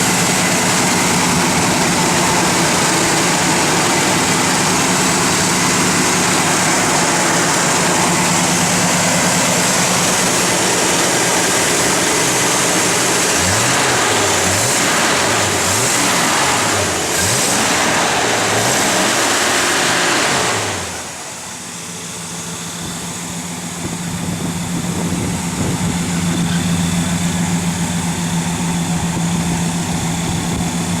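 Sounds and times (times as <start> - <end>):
car engine revving and idling: 0.0 - 31.0.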